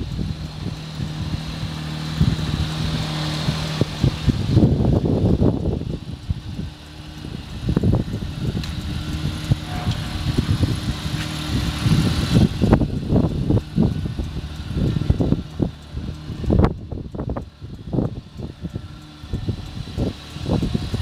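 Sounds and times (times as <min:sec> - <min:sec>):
low rumbling gusts: 0:00.0 - 0:21.0
small truck engine idling: 0:00.0 - 0:21.0.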